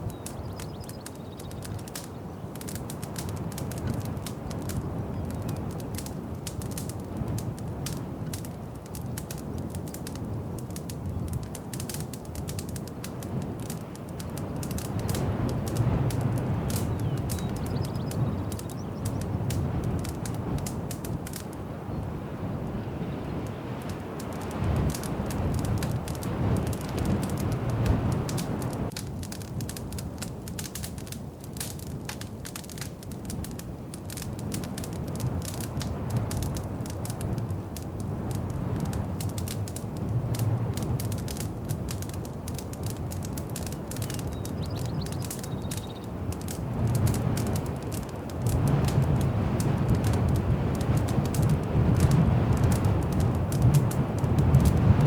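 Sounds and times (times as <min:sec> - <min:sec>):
flames rumbling: 0:00.0 - 0:55.0
wood fire crackling: 0:00.0 - 0:55.0.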